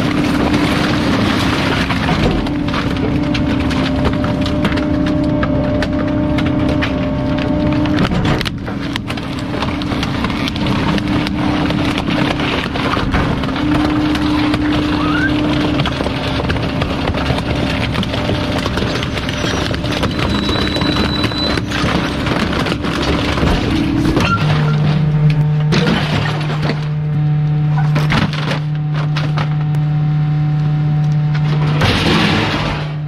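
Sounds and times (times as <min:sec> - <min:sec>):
sharp cracks and knocks: 0:00.0 - 0:27.0, 0:27.8 - 0:29.8, 0:31.0 - 0:33.0
garbage truck compacting: 0:00.0 - 0:30.0, 0:30.6 - 0:33.0
hydraulic hum: 0:00.0 - 0:33.0.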